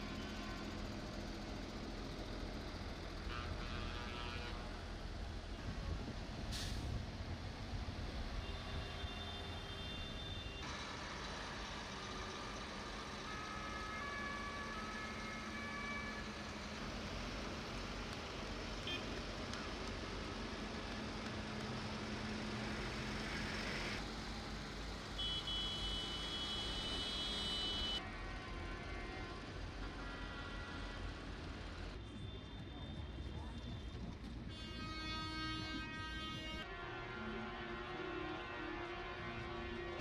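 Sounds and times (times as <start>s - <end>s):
tractor diesel engines rumbling: 0.0s - 36.6s
traffic hum: 0.0s - 36.8s.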